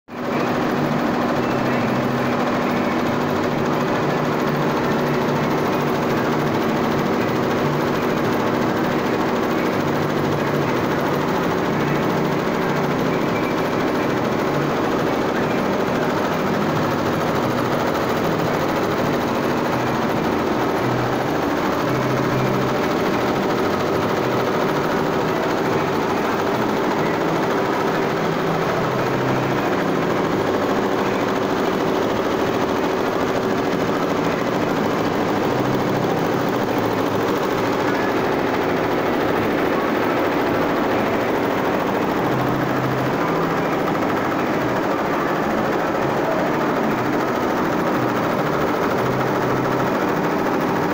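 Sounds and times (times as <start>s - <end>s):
embroidery machine clattering: 0.1s - 50.9s.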